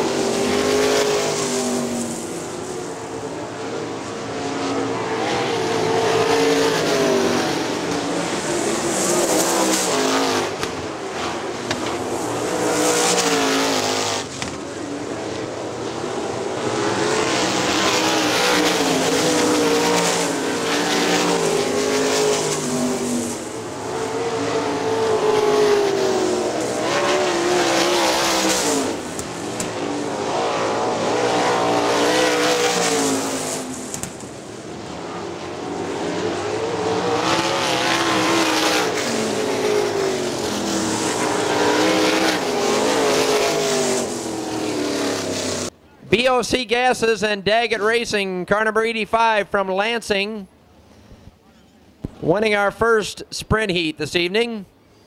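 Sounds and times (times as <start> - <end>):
race car engines accelerating: 0.0 - 49.0.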